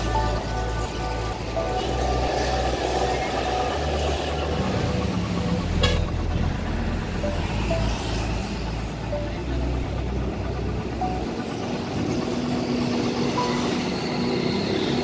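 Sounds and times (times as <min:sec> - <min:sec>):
music: 0:00.0 - 0:15.0
traffic passing close by: 0:00.0 - 0:15.0.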